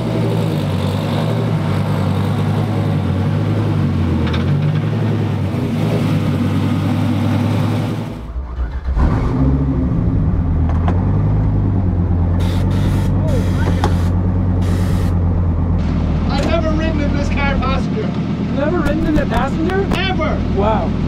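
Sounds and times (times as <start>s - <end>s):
car engine idling: 0.0s - 9.0s, 9.8s - 21.0s.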